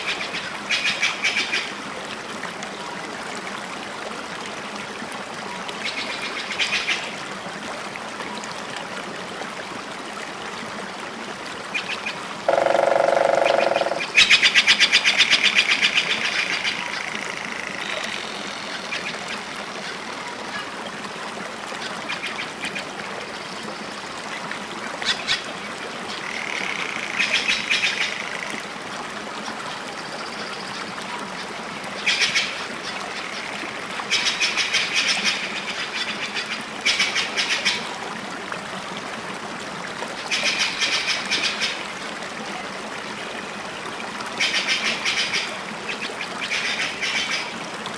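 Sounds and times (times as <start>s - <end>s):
running water: 0.0s - 47.9s.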